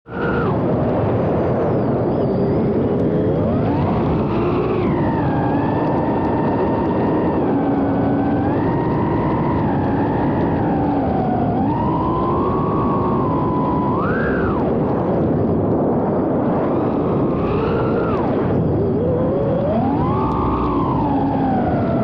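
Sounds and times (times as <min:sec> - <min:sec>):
quadcopter motors whining: 0:00.1 - 0:22.0.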